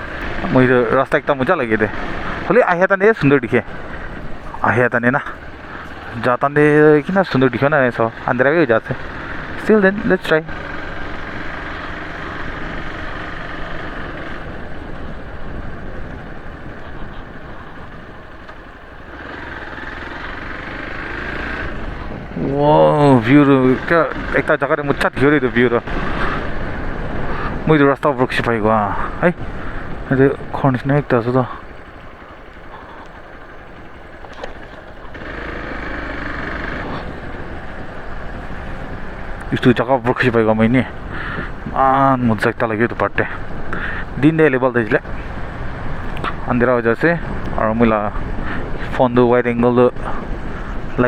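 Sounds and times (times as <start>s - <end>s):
road and wind noise: 0.0s - 51.0s
vehicle engine running: 0.0s - 51.0s.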